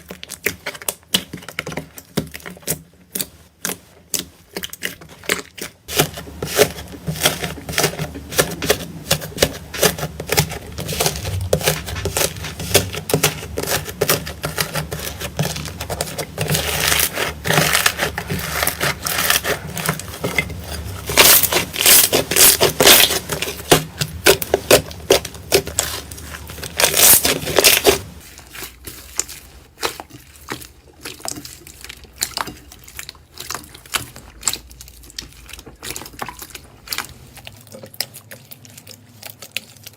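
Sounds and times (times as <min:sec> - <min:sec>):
slime squeezed crackling: 0:00.0 - 0:39.9.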